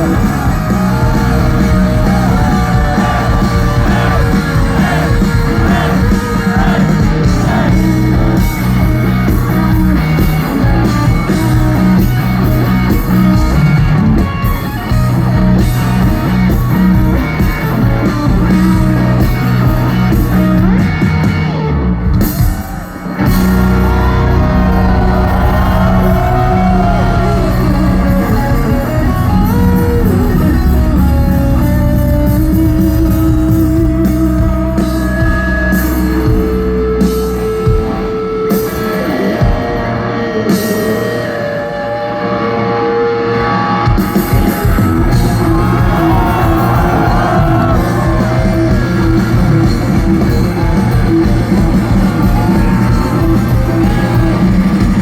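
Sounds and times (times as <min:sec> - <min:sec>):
electric guitar lines: 0:00.0 - 0:55.0
rock band playing: 0:00.0 - 0:55.0.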